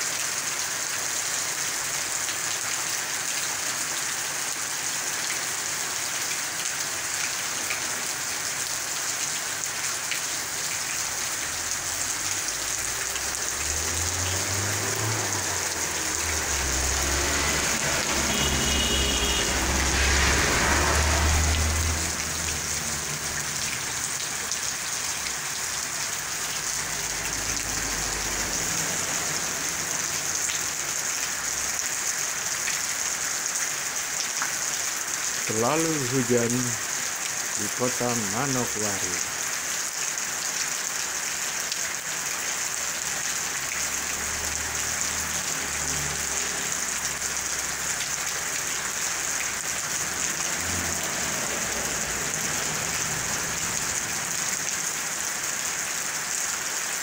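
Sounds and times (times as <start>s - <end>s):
rain on paving and grass: 0.0s - 57.0s.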